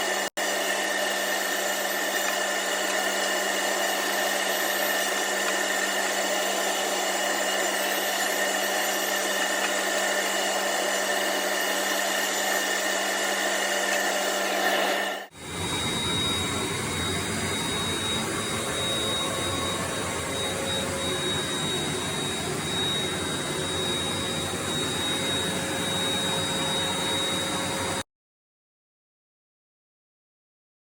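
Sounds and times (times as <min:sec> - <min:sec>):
saw running with a whine: 0:00.0 - 0:28.0.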